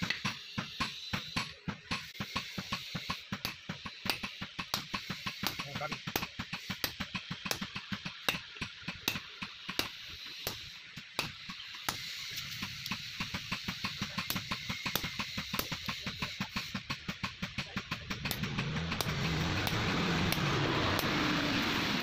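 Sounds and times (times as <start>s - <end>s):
hammer striking hot metal: 0.0s - 22.0s.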